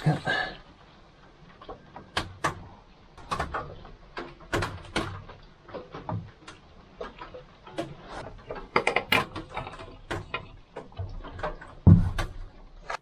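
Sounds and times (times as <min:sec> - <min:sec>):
clicks and knocks of small parts: 0:01.2 - 0:13.0.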